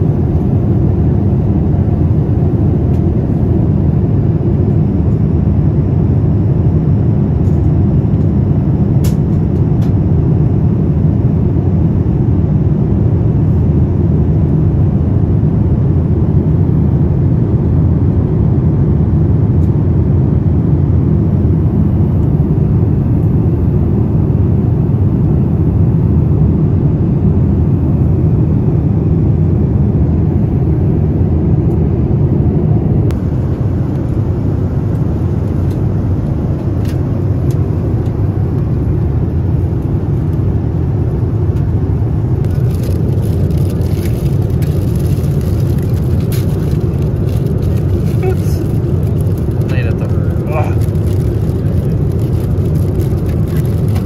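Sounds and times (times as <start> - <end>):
airplane cabin engine noise: 0.0 - 54.0.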